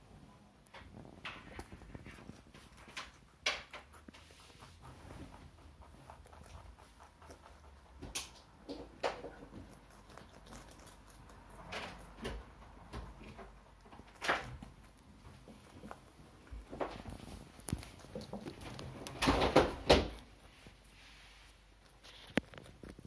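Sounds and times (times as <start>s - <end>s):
rabbits chewing leaves: 0.5s - 23.0s.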